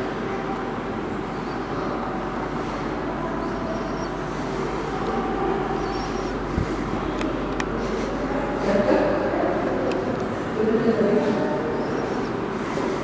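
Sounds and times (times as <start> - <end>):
air conditioning hum and hiss: 0.0 - 13.0.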